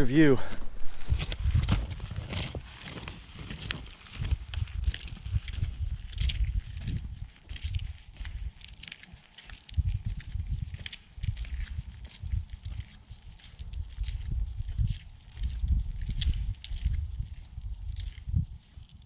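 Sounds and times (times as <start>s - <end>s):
footsteps crunching through snow: 0.0s - 19.0s.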